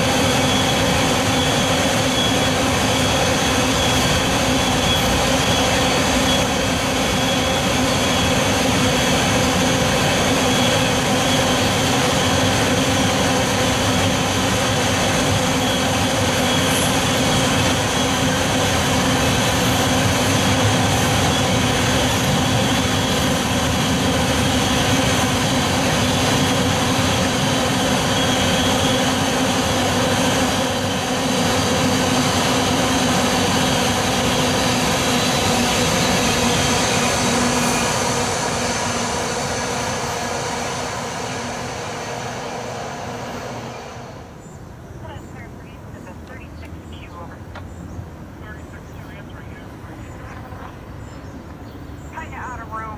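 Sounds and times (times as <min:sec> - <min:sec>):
train passing: 0:00.0 - 0:52.9.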